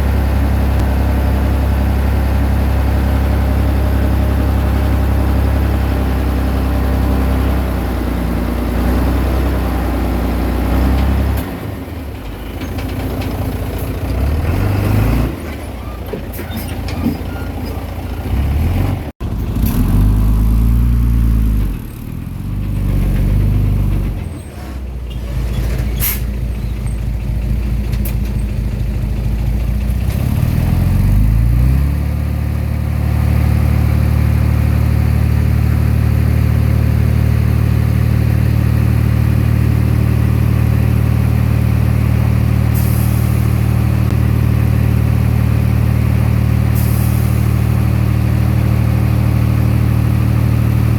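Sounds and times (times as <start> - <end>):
bulldozer diesel engine revving: 0.0 - 50.9.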